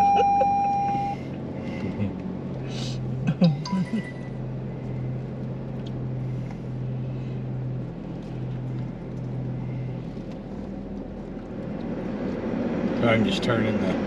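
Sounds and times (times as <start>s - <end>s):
car engine hum inside cabin: 0.0s - 14.0s.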